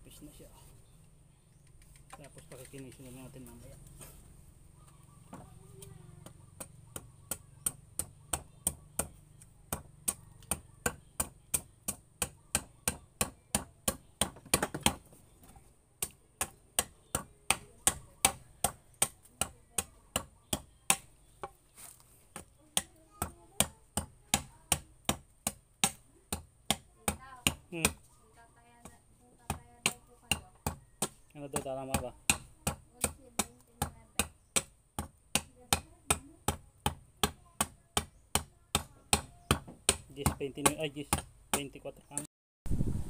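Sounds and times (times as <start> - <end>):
knife chopping wood: 6.2 - 28.1, 28.8 - 42.3.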